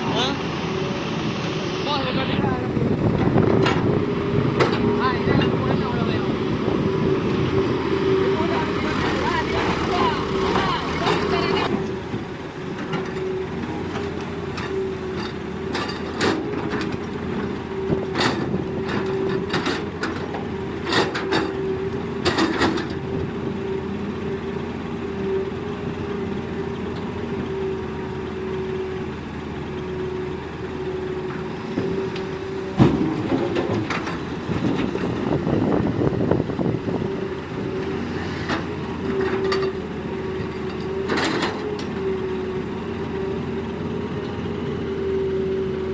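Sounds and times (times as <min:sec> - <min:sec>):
excavator whine: 0:00.0 - 0:45.9.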